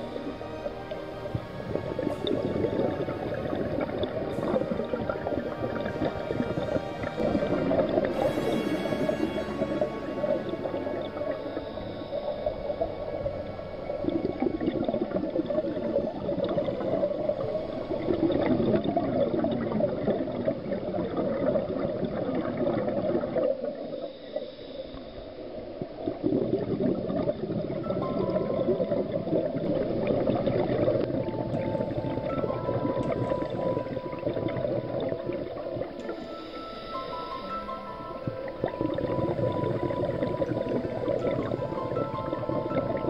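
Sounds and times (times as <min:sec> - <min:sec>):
scuba diver's exhaled bubbles gurgling: 0:00.0 - 0:24.2, 0:25.8 - 0:43.0.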